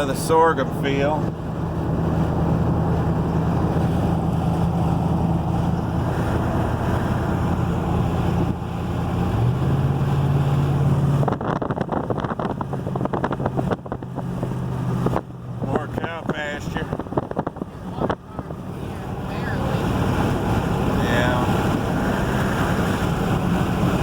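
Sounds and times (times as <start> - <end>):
vehicle engine hum and road noise: 0.0 - 24.0.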